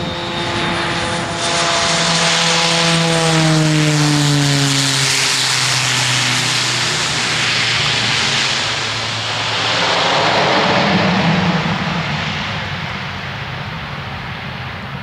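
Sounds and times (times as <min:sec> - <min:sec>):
turboprop engines roaring: 0:00.0 - 0:15.0.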